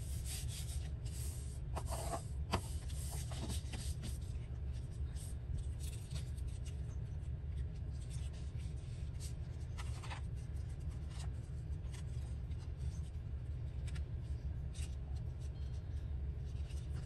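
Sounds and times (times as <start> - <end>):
paper rustling and scraping: 0.0 - 15.8, 16.4 - 17.0
steady low hum: 0.0 - 17.0.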